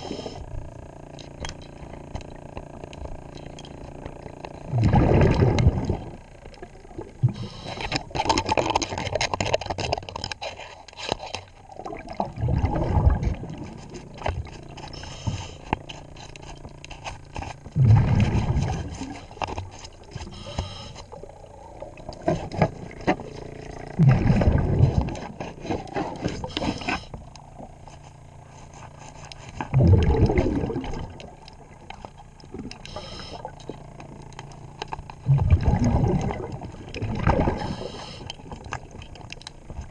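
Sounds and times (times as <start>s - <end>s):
regulator bubbles exhaled underwater: 0.0s - 10.4s, 11.3s - 39.9s
scraping and clicking on propeller: 0.3s - 12.1s, 13.1s - 35.3s, 36.2s - 39.9s.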